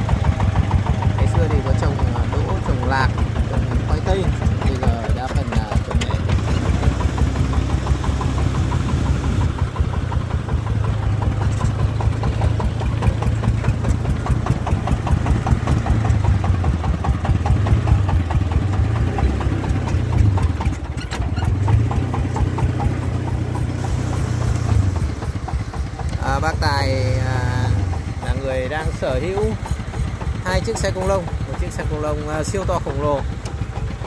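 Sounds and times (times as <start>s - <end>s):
diesel engine chugging: 0.0s - 34.0s.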